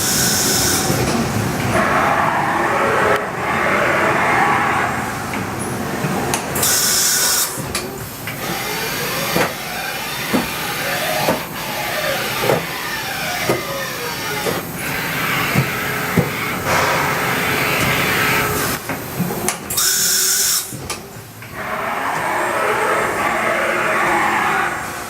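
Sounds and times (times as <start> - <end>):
machine motors whining: 0.0 - 18.8, 21.4 - 25.0.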